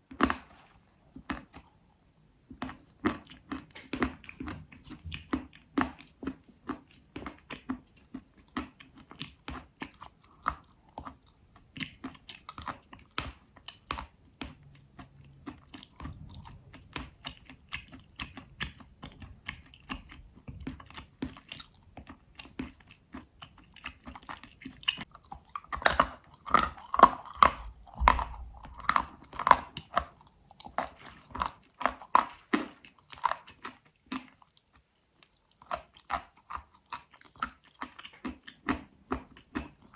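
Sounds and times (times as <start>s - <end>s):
chalk being chewed with crunches: 0.0s - 39.9s.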